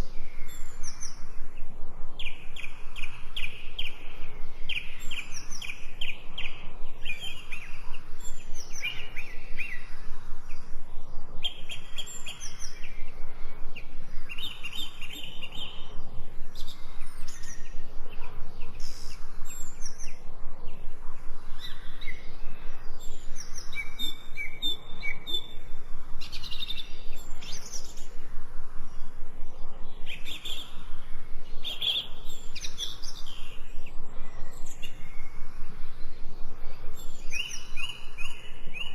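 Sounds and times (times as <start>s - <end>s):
birds chirping and singing: 2.2s - 28.2s, 29.5s - 38.9s.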